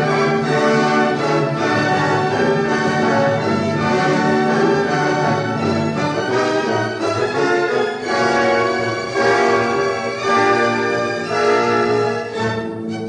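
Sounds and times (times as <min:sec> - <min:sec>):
orchestral music with held chords: 0:00.0 - 0:13.0.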